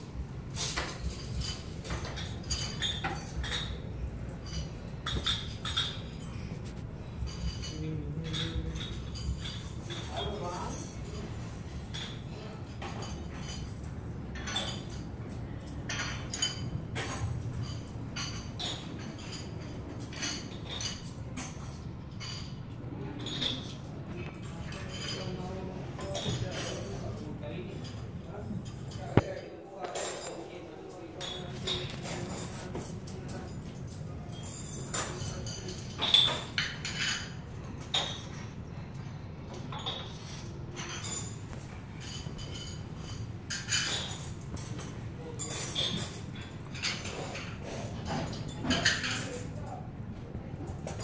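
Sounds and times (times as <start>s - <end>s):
cutlery and dishes clinking: 0.4s - 51.0s.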